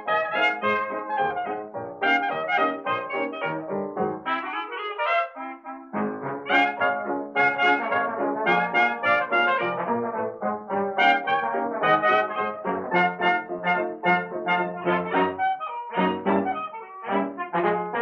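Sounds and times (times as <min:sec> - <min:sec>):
brass music with steady beat: 0:00.0 - 0:18.0.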